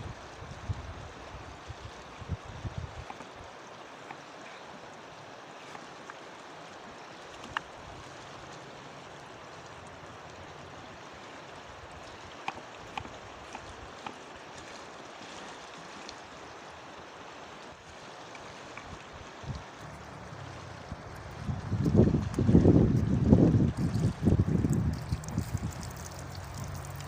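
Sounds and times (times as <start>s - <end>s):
mountain river rushing: 0.0s - 27.0s.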